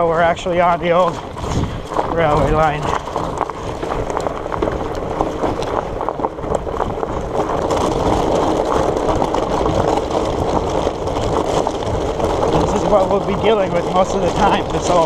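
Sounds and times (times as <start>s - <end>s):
bike tyres rolling: 0.0s - 15.0s
gravel clicks and rattles: 0.0s - 15.0s.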